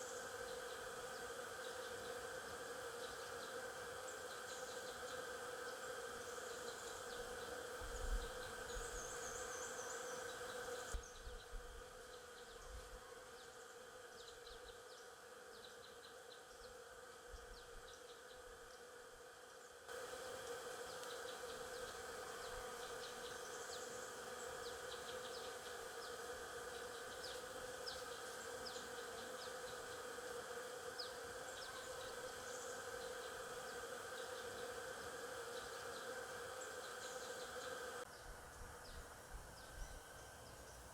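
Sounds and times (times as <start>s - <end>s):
bee swarm buzzing: 0.0s - 38.1s.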